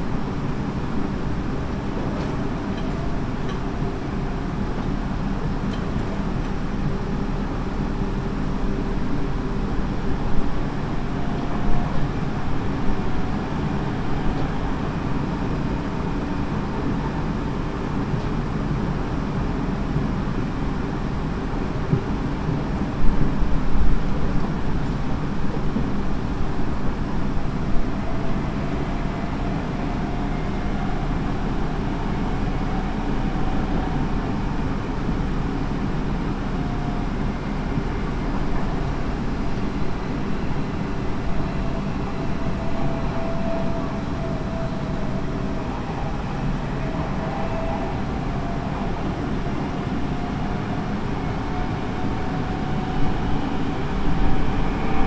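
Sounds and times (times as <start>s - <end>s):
faint train whine: 0.0s - 55.0s
wheels rumbling on rail: 0.0s - 55.0s.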